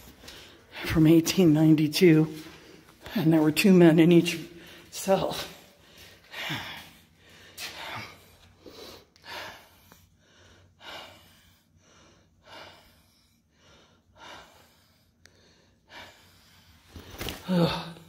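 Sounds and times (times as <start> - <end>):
person breathing heavily: 0.0 - 1.1, 4.4 - 18.0.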